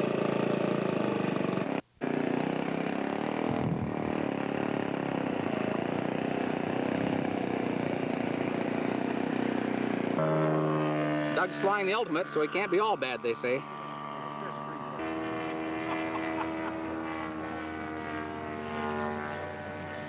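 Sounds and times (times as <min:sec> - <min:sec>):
model airplane engine running: 0:00.0 - 0:20.0.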